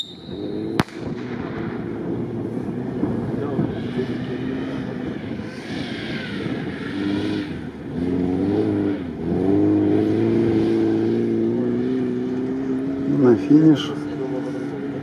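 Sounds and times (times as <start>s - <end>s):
vehicle engine running hard: 0.0s - 15.0s.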